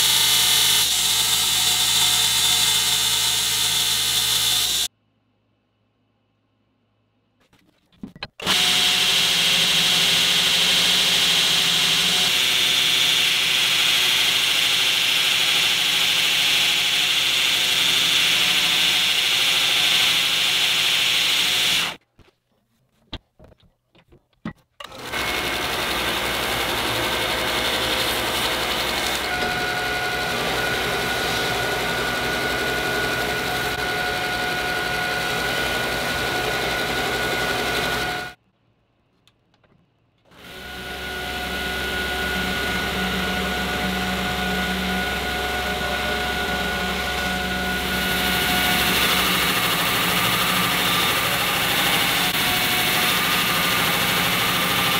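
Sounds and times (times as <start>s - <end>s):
belt grinder grinding steel: 0.0s - 4.9s, 8.4s - 22.0s, 24.8s - 38.4s, 40.4s - 54.9s.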